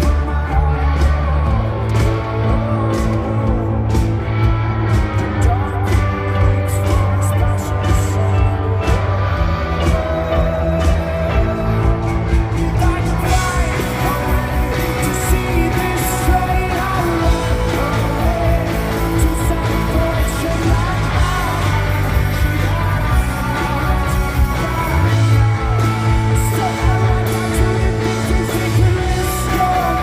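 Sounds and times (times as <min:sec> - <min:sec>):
lead singer singing: 0:00.0 - 0:30.0
rock band playing live: 0:00.0 - 0:30.0.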